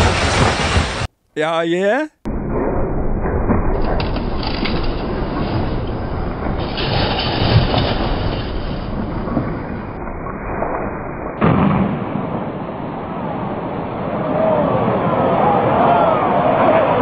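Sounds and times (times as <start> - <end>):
building collapsing with rumbling roar: 0.0 - 1.1, 2.3 - 17.0.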